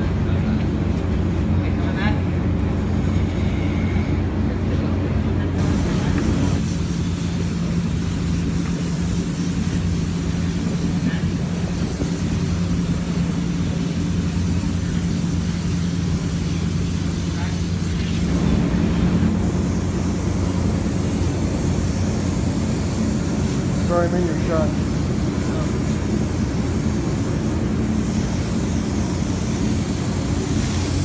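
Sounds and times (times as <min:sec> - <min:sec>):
gas furnace roaring: 0:00.0 - 0:31.0.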